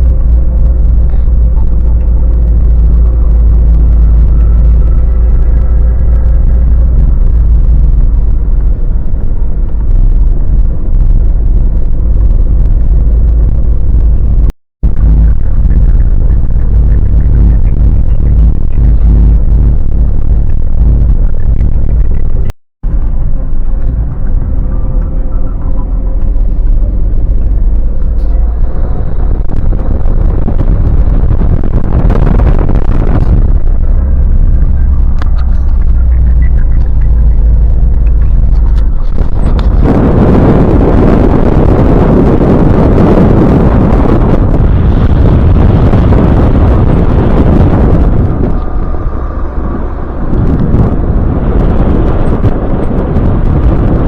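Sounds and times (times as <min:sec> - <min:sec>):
car engine rumbling while driving: 0:00.0 - 0:54.0
road noise: 0:00.0 - 0:54.0.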